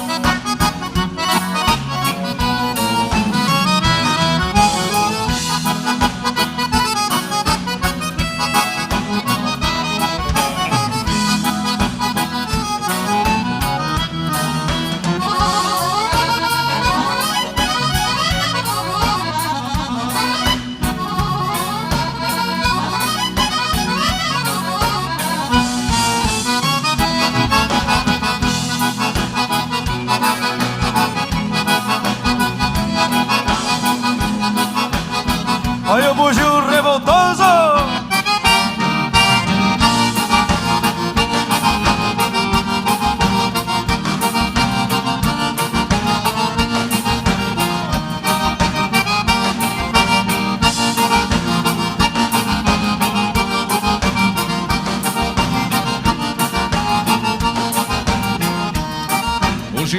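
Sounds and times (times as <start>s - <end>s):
accordion melody: 0.0s - 59.9s
bass and rhythm section: 0.0s - 59.9s.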